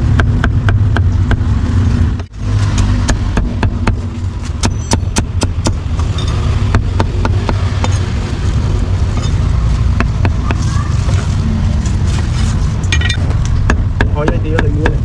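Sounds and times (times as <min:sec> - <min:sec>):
low rumble: 0:00.0 - 0:14.5.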